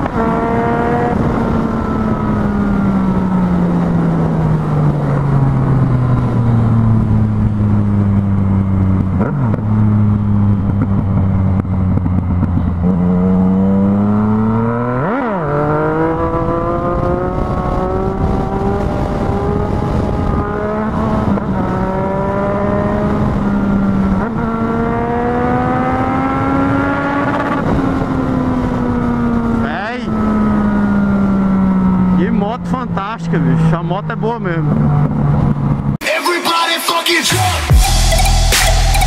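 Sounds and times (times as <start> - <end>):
motorcycle engine accelerating: 0.0 - 36.0
wind and road noise: 0.0 - 36.0.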